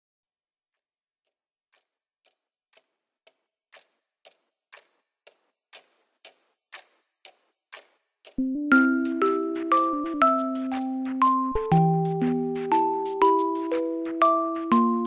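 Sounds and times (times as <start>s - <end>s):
clock ticking: 1.7s - 15.0s.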